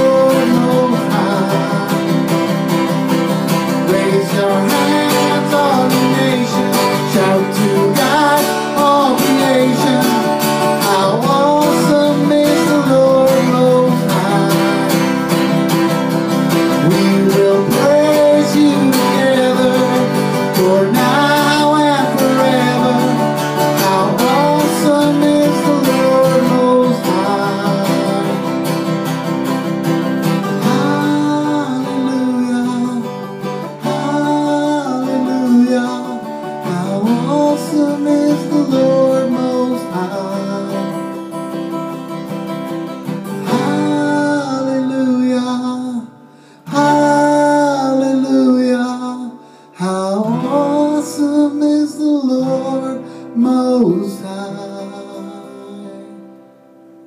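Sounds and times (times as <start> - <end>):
man singing: 0.0 - 56.5
acoustic guitar strumming: 0.0 - 57.0.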